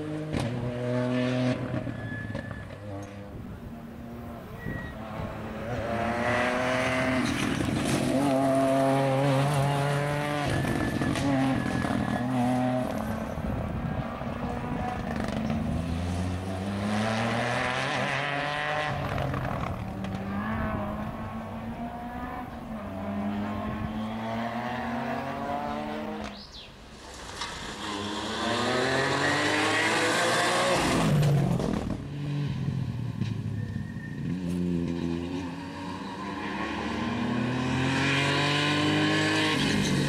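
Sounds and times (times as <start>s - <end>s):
rally car engine revving: 0.0s - 3.3s, 3.9s - 26.4s, 27.2s - 32.8s, 34.2s - 40.0s.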